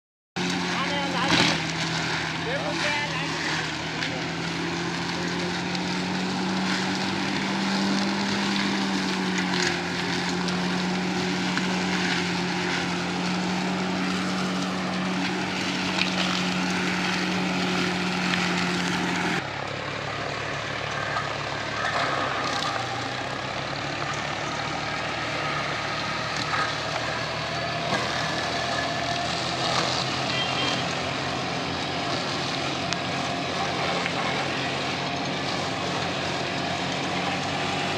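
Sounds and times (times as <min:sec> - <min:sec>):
thin engine sound: 0:00.4 - 0:37.9
tractor engine running: 0:00.4 - 0:37.9.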